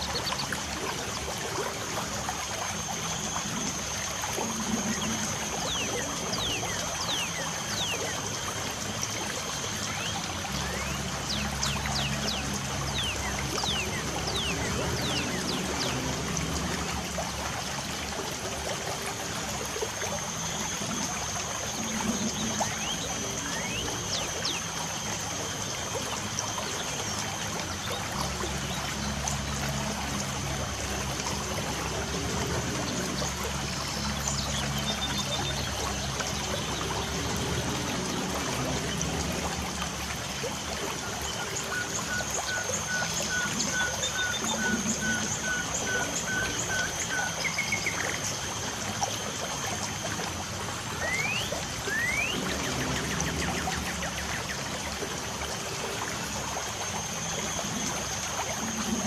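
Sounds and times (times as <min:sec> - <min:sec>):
trickling water: 0:00.0 - 0:59.0.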